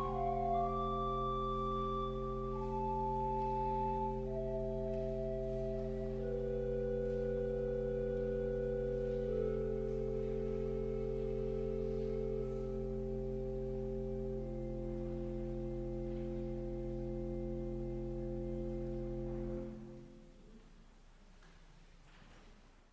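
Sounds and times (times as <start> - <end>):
pipe organ chord: 0.0 - 20.4.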